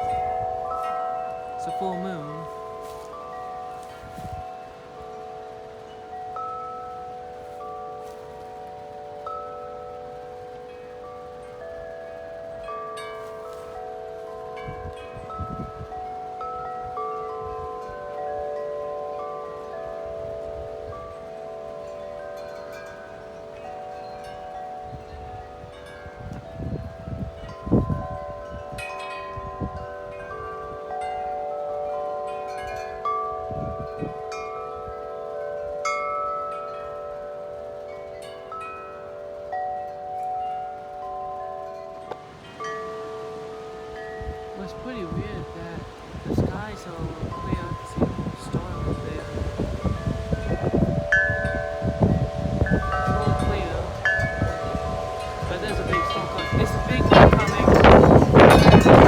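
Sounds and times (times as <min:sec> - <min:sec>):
wind buffeting microphone: 0:00.0 - 0:39.8, 0:40.6 - 0:59.0
tubular wind chimes ringing: 0:00.0 - 0:59.0.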